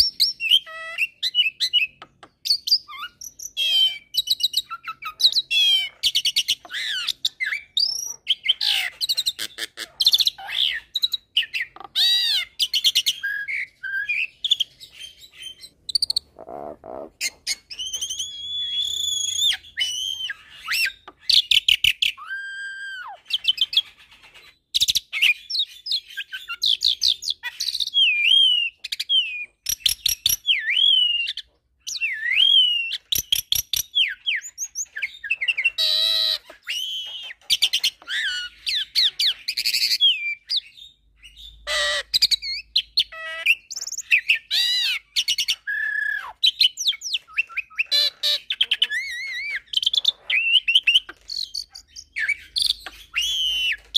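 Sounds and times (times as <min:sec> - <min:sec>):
bird singing whistles and chatter: 0:00.0 - 0:09.5, 0:10.1 - 0:16.4, 0:17.2 - 0:53.9.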